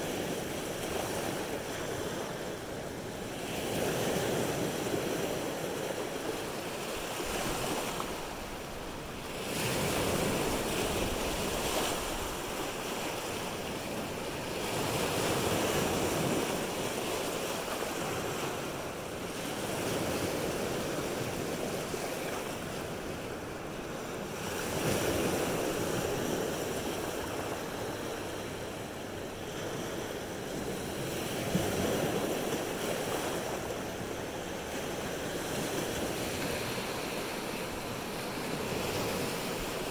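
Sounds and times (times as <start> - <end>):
surf washing on the shore: 0.0 - 39.9.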